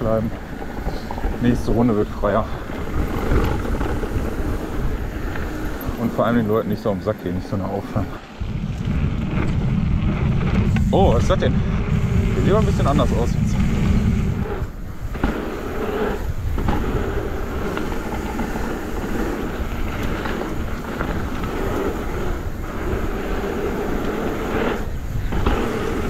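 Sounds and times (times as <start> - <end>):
mountain bike tyres rumbling: 0.0 - 26.0.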